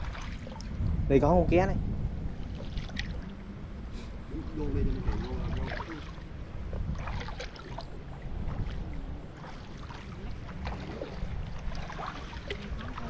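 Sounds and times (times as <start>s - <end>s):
pond water splashing: 0.0s - 0.8s, 2.3s - 3.6s, 4.4s - 13.0s.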